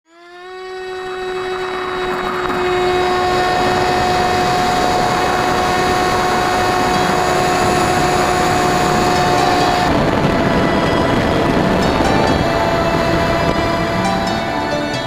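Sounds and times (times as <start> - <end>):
electric propeller motor hum: 0.1 - 15.0
wind rushing past microphone: 1.0 - 15.0.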